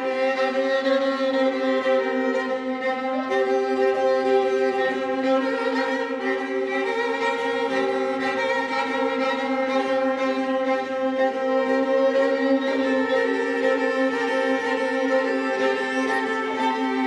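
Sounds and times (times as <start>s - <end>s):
string quartet held notes: 0.0s - 17.0s.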